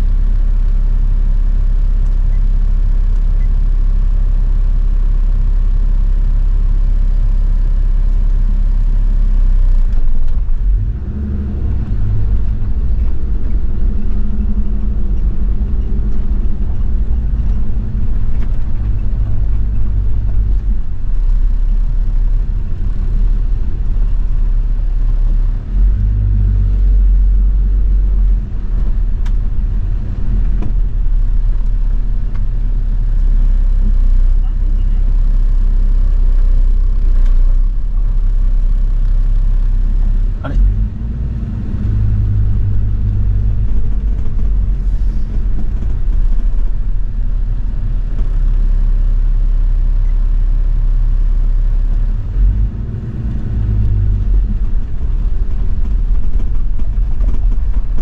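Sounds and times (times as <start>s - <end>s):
diesel engine drone: 0.0s - 58.0s
tyre rumble on dirt road: 9.6s - 50.4s, 52.0s - 58.0s.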